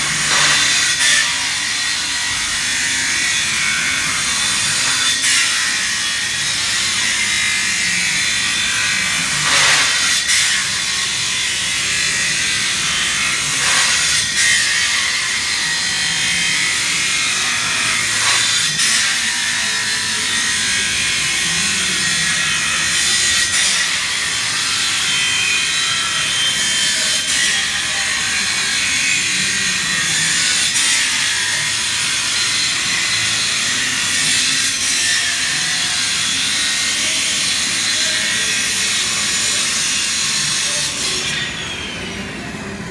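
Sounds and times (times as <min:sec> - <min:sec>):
saw grinding through steel: 0:00.0 - 0:42.9.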